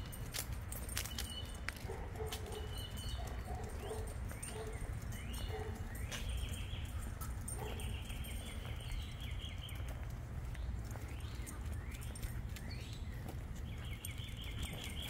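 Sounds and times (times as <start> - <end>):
birds chirping and trilling: 1.1 - 15.0.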